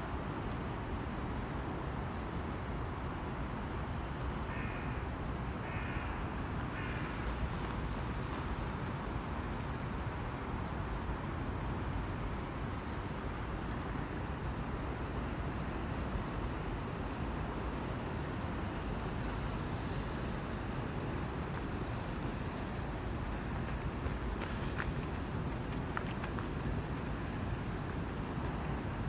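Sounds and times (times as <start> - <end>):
distant road traffic rumble: 0.0 - 29.0.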